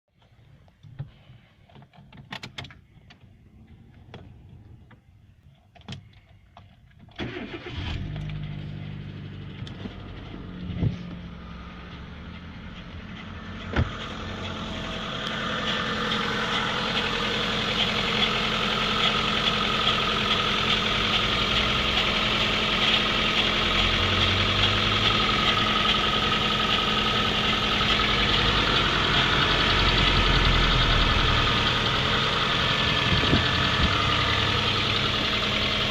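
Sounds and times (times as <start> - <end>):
car engine starting and running: 1.8 - 35.9.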